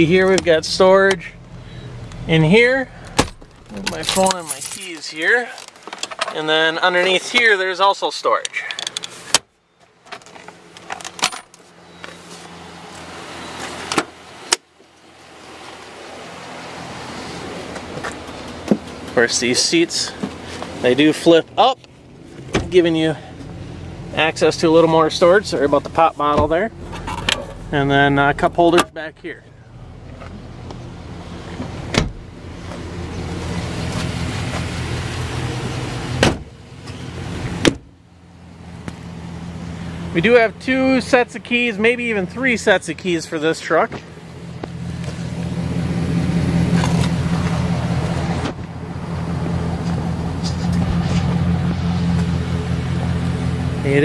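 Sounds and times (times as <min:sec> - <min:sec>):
mechanical hum in vehicle cab: 0:00.0 - 0:54.0.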